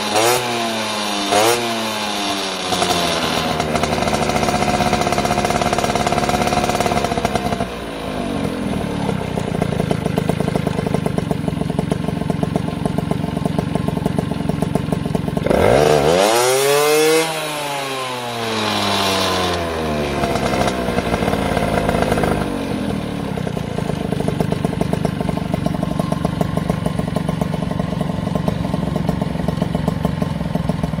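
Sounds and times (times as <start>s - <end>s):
moped engine revving and idling: 0.0s - 31.0s.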